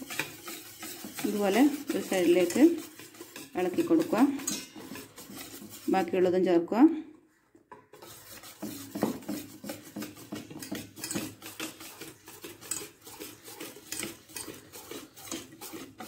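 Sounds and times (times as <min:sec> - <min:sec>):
whisk beating batter in metal bowl: 0:00.0 - 0:06.9, 0:07.9 - 0:16.0.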